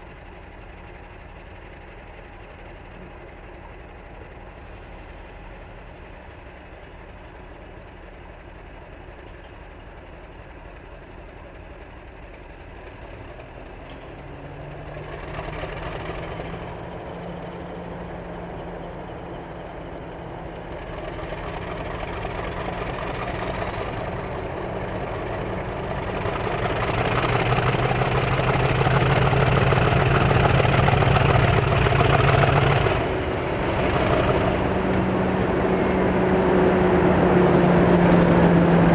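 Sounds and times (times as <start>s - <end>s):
diesel locomotive engine: 0.0s - 38.9s
train rumble: 0.0s - 38.9s.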